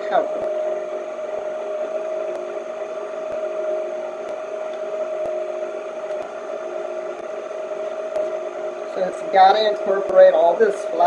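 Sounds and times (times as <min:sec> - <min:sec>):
stand mixer motor whining: 0:00.0 - 0:11.0.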